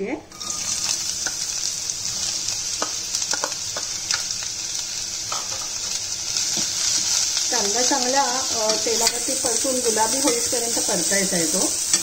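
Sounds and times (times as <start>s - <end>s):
onions sizzling in hot oil: 0.3s - 12.0s.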